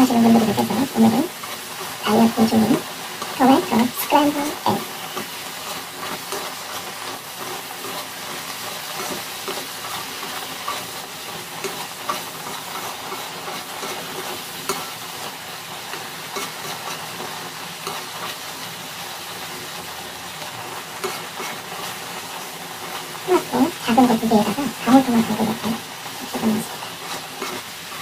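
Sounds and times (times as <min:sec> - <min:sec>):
food sizzling in a pan: 0:00.0 - 0:28.0
chopsticks scraping a pan: 0:00.2 - 0:28.0.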